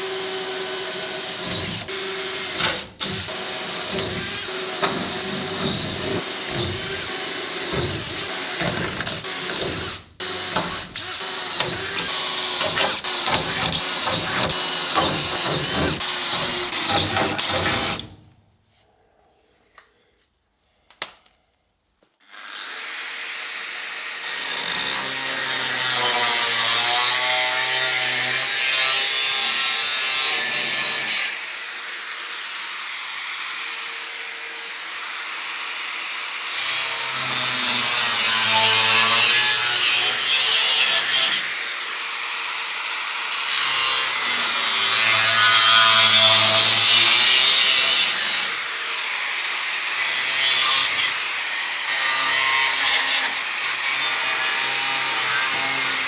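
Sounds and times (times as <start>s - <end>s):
power tool cutting sheet metal: 0.0s - 18.4s, 22.3s - 56.0s.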